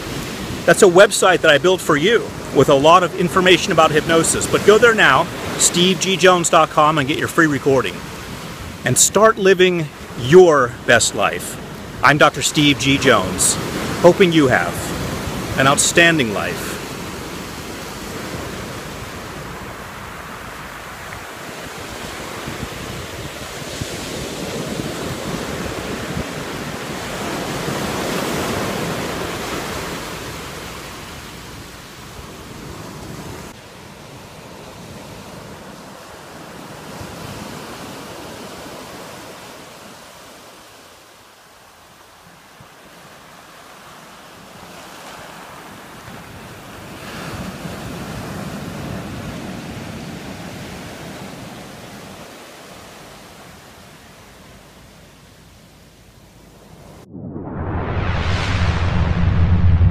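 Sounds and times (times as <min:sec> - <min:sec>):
surf washing up a beach: 0:00.0 - 0:59.9.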